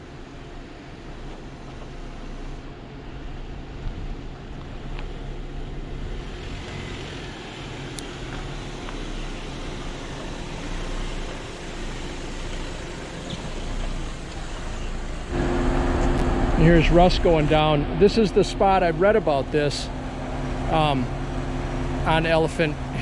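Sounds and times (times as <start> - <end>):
engine running at low revs: 0.0 - 23.0.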